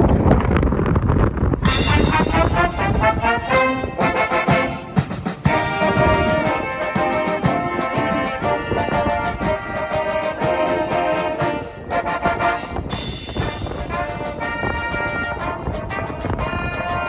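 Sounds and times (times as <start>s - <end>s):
brass band playing lively tune: 1.6s - 17.0s.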